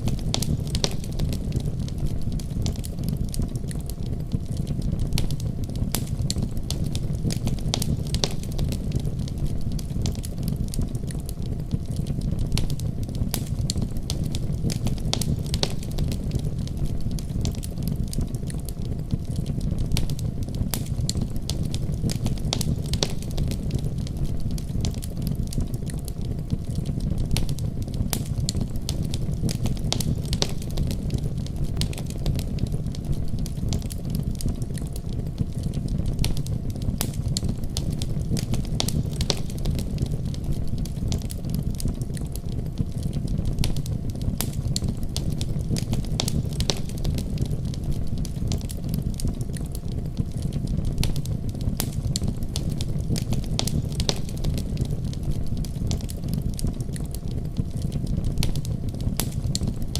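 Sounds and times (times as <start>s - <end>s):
wood fire burning: 0.0s - 59.9s.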